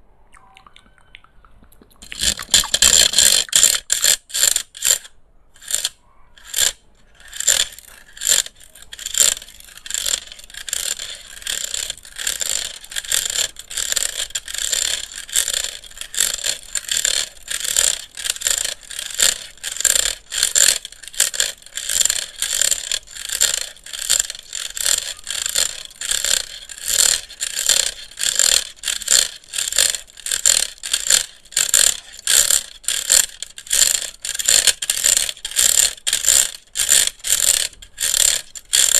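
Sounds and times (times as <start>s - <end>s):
crisp scraping strokes: 2.0s - 38.9s.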